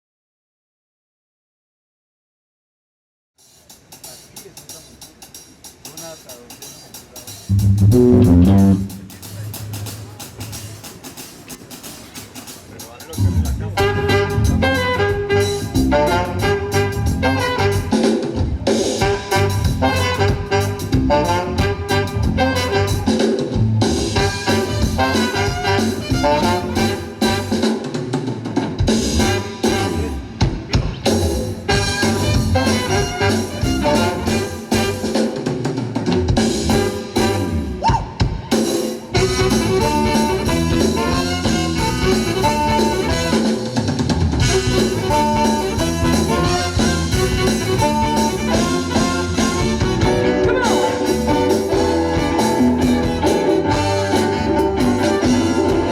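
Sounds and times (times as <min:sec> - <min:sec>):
live band with horns and drums: 0:03.4 - 0:55.9.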